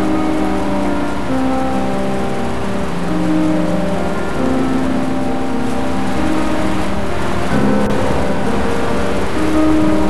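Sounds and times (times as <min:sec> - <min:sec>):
music of long held notes: 0:00.0 - 0:10.0
steady hiss: 0:00.0 - 0:10.0.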